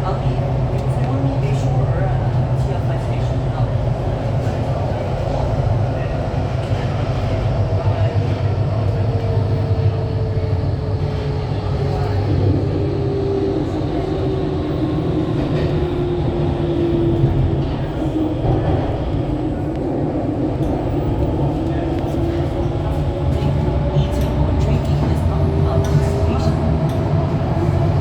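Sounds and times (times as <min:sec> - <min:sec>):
train low rumble: 0:00.0 - 0:28.0.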